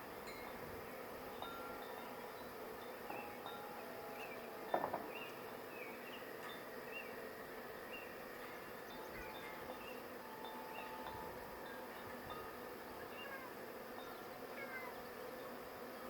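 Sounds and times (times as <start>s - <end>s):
honey bee swarm buzzing: 0.0s - 16.0s.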